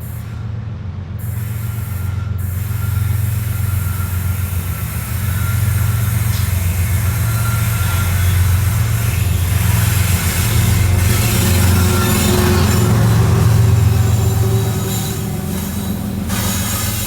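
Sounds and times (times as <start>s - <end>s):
locomotive engine drone: 0.0s - 17.0s.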